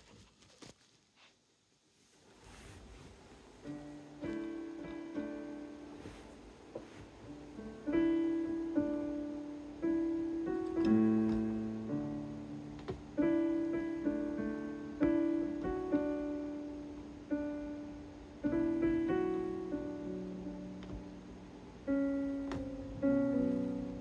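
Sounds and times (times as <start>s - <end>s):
keyboard slow notes and chords: 3.7s - 24.0s.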